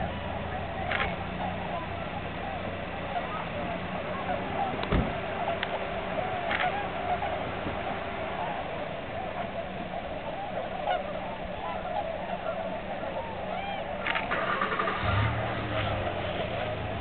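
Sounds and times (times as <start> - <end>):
flock of swans calling: 0.0 - 17.0.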